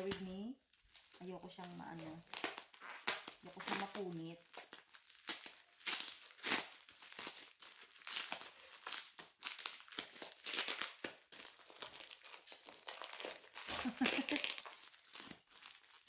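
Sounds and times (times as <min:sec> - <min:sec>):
crinkly wrapping crackling: 0:00.0 - 0:16.0.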